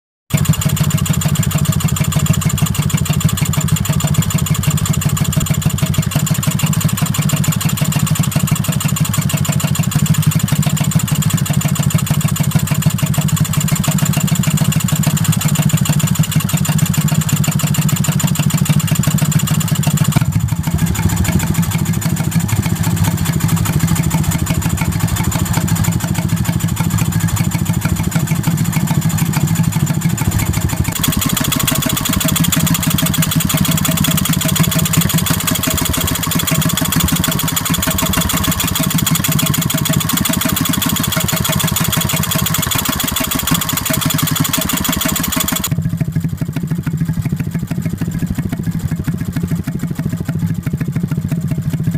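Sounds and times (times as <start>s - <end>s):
stationary engine running: 0.3s - 45.9s.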